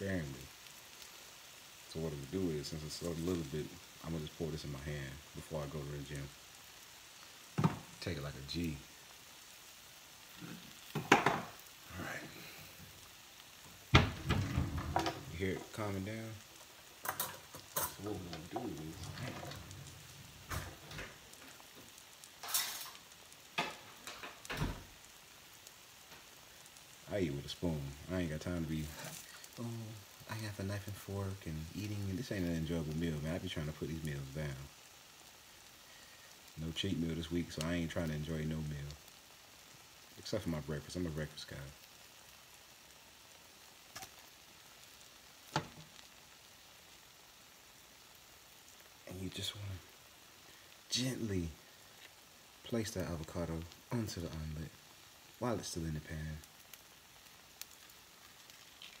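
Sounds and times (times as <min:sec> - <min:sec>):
omelet sizzling in frying pan: 0:00.0 - 0:59.0.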